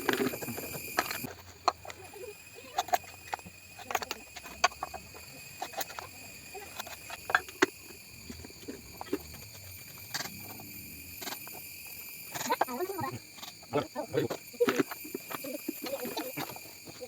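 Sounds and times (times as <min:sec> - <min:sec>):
small hard parts clicking: 0:02.6 - 0:17.0.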